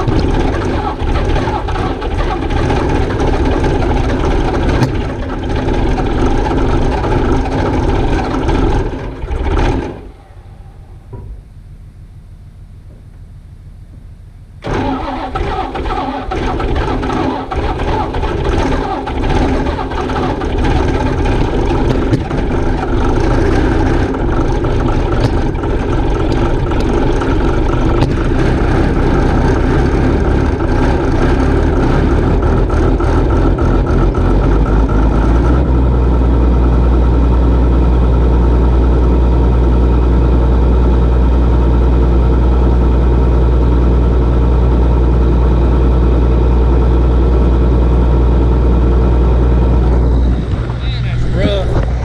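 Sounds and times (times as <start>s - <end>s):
engine starting and running: 0.0s - 52.0s.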